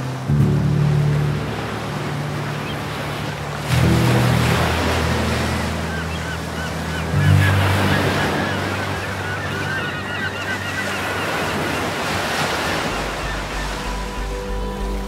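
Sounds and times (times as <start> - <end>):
soft background music: 0.0 - 15.0
surf washing onto beach: 0.0 - 15.0
wind: 0.0 - 15.0.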